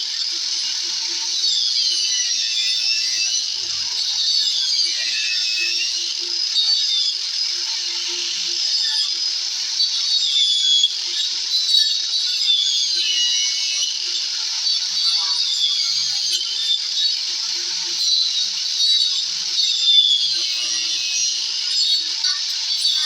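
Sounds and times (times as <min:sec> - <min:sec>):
angle grinder cutting wood: 0:00.0 - 0:23.0.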